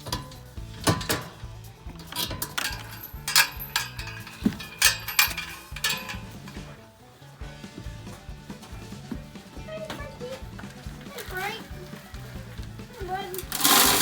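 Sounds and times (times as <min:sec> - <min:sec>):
metallic clinks and clanks: 0:00.0 - 0:14.0
music with stepping bass line: 0:00.0 - 0:14.0.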